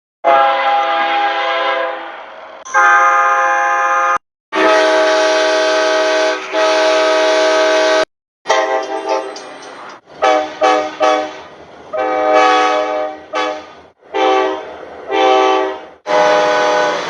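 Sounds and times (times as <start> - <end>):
train air horn blasts: 0.2 - 2.1, 2.7 - 9.4, 10.2 - 17.0.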